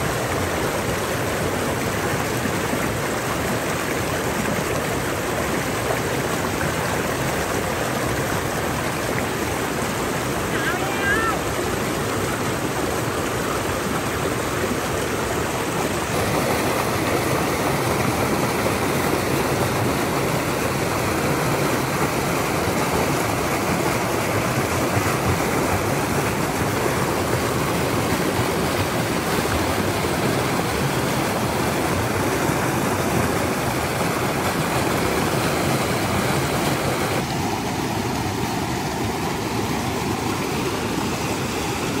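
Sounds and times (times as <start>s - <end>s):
creek rushing over boulders: 0.0s - 42.0s.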